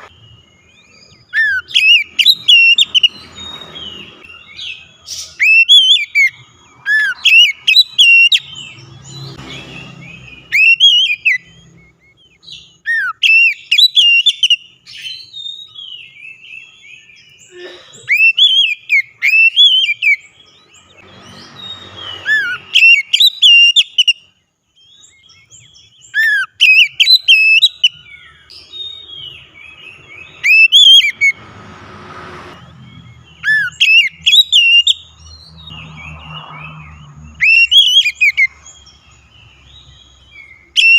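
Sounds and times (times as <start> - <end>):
bird singing whistled phrases: 0.0 - 17.5, 18.1 - 20.3, 20.9 - 31.4, 33.3 - 35.4, 37.4 - 38.5, 39.8 - 40.9.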